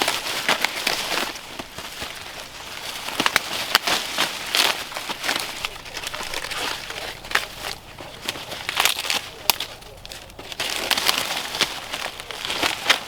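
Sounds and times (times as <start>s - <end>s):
dry leaves rustling: 0.0s - 13.0s
sharp crackles and snaps: 0.0s - 13.0s.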